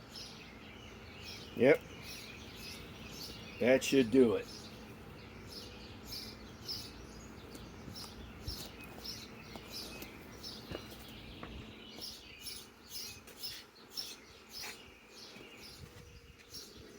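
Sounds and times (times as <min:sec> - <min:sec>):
small bird chirping: 0:00.0 - 0:16.9.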